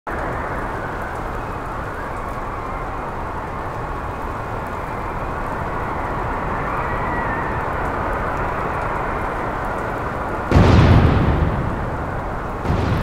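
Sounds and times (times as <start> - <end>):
heavy rain rushing: 0.1 - 13.0.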